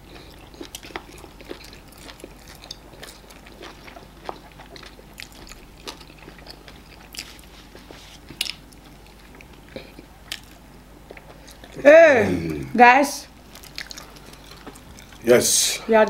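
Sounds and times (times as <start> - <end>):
chewing: 0.0 - 11.8, 13.5 - 15.2.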